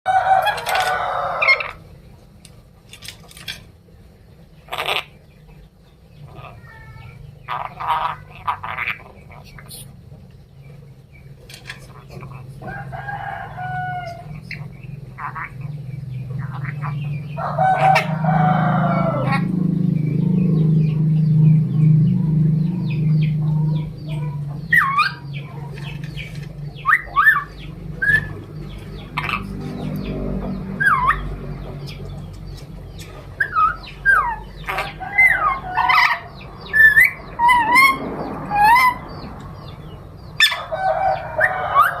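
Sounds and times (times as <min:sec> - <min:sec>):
low steady hum: 0:00.1 - 0:42.0.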